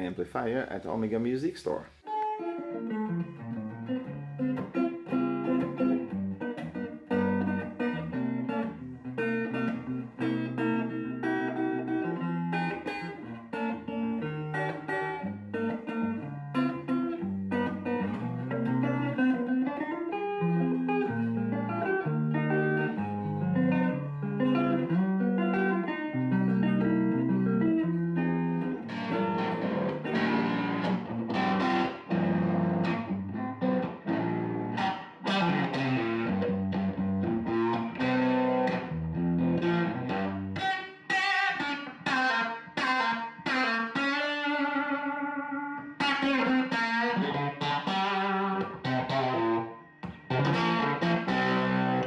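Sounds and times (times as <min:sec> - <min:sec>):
overdriven electric guitar: 0:02.0 - 0:52.0.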